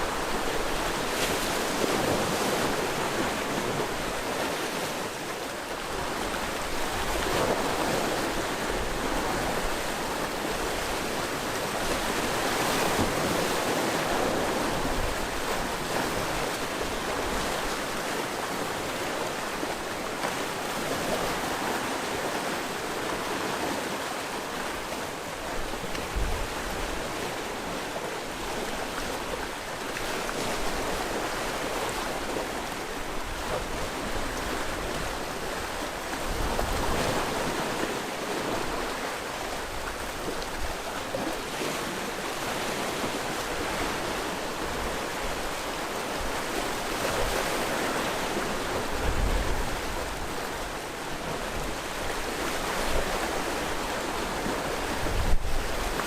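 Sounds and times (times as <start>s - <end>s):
sea waves washing ashore: 0.0s - 56.0s.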